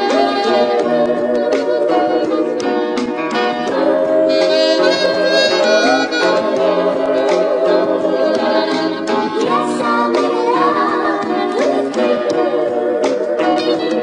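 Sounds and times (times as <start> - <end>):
harmonica-like background music: 0.0 - 14.0.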